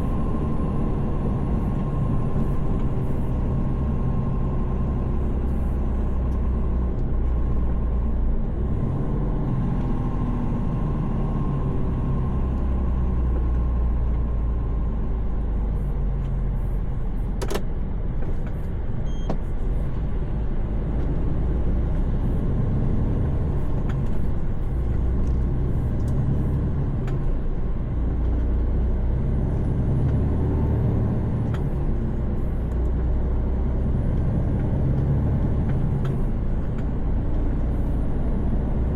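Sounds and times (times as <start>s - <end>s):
truck engine and tyre drone: 0.0s - 38.9s.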